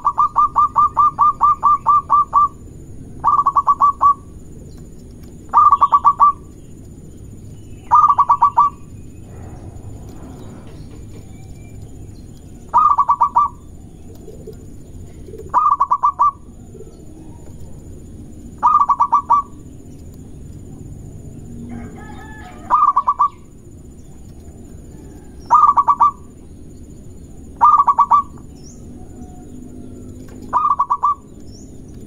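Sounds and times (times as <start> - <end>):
dove cooing: 0.0 - 4.4, 5.5 - 6.5, 7.9 - 19.7, 20.8 - 26.5, 27.5 - 31.3.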